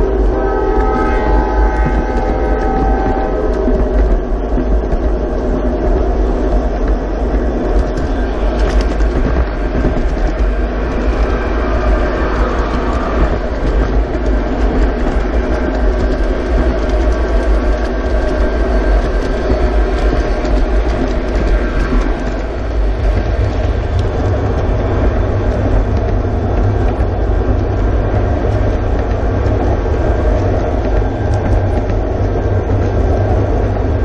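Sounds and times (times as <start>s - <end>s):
model train wheels rumbling: 0.0s - 34.0s.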